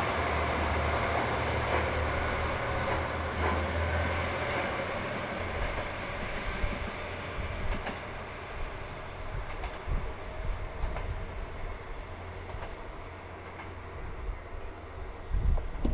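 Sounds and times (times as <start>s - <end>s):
diesel railcar rumble: 0.0s - 15.9s.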